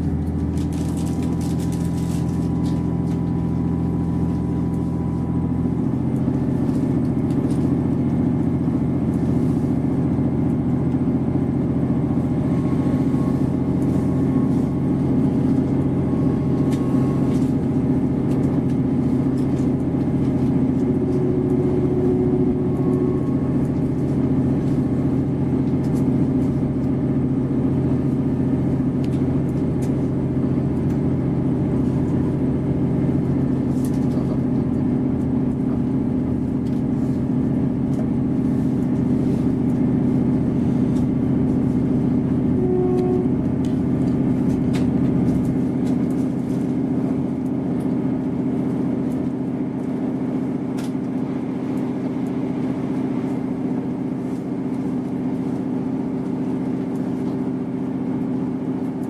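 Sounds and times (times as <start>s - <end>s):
diesel engine drone: 0.0s - 59.0s
wheel and rail noise: 0.0s - 59.0s.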